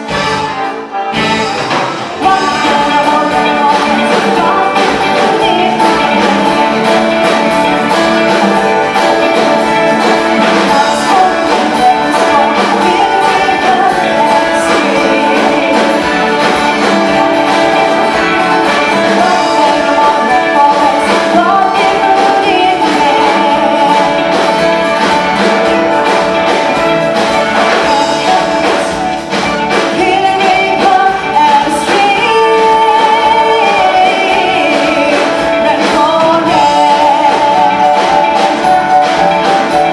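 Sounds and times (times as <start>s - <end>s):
live song with singing: 0.0s - 39.9s.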